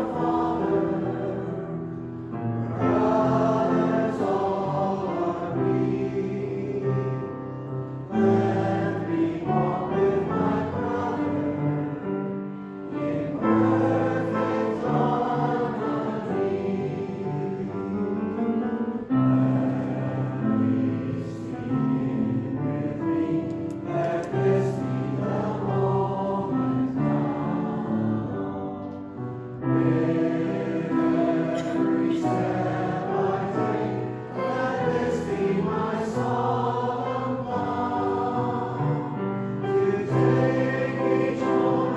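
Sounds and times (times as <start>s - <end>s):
choir singing: 0.0s - 41.9s.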